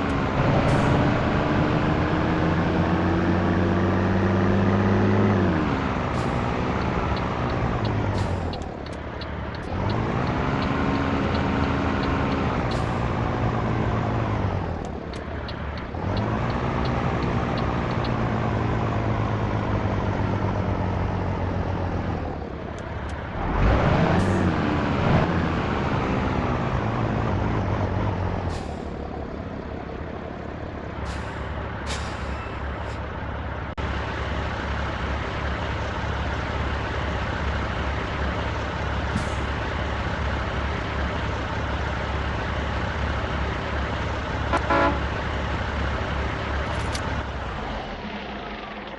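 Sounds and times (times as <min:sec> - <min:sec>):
truck diesel engine running: 0:00.0 - 0:48.9.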